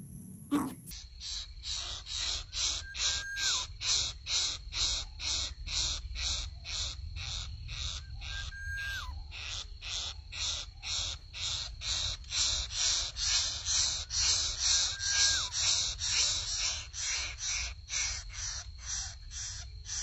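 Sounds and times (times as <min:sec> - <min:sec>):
nestlings rasping begging calls: 0:01.8 - 0:20.0.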